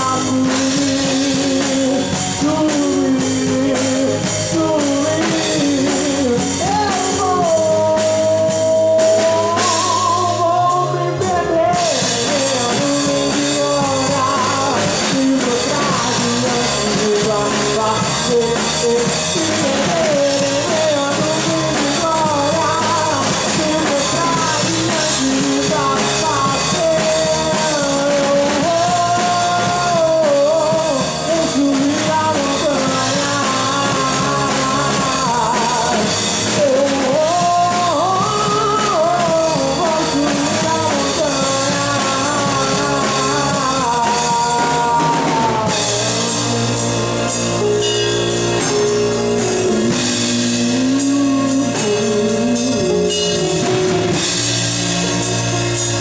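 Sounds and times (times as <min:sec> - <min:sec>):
band playing gospel music: 0:00.0 - 0:56.0
man singing into a microphone: 0:00.0 - 0:56.0.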